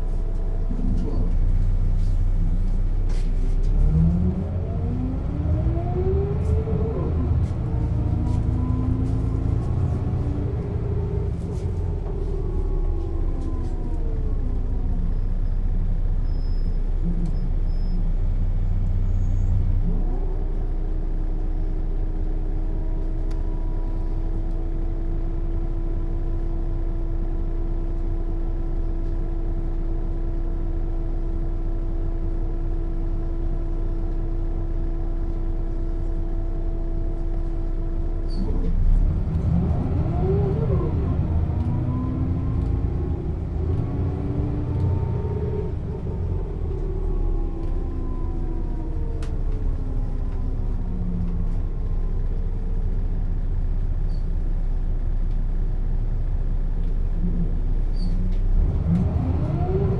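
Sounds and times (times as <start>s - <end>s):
bus engine and drivetrain: 0.0s - 59.9s
steady engine hum: 0.0s - 59.9s.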